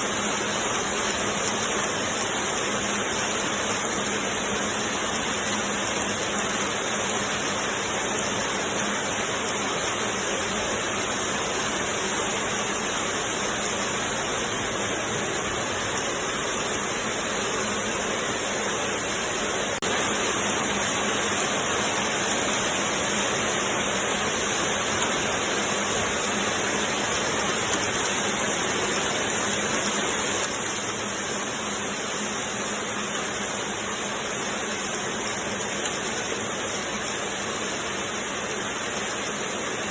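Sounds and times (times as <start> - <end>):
knitting machine hiss and clatter: 0.0 - 39.9.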